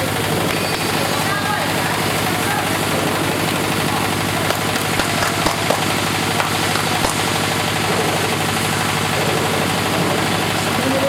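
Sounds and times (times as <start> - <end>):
drilling rig engine running: 0.0 - 11.0.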